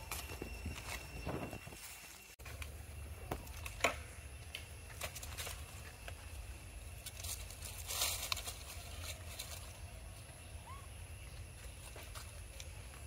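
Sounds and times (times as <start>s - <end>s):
dry leaves crackling and rustling: 0.0s - 13.0s.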